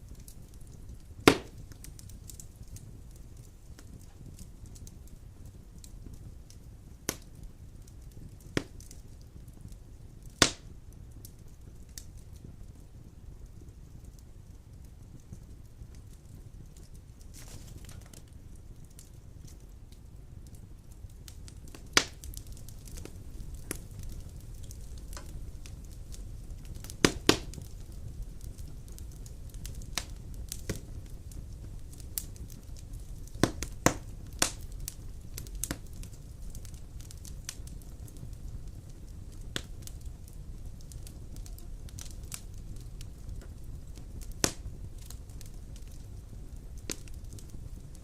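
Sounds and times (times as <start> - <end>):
logs crackling and popping: 0.0 - 48.0
low rumble of fire: 0.0 - 48.0.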